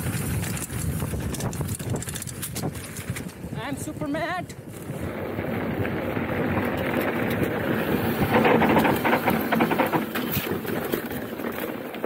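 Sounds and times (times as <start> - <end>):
bike frame and chain clattering: 0.0 - 12.0
bike tyres rumbling on dirt: 0.0 - 12.0
wind on microphone: 0.0 - 12.0.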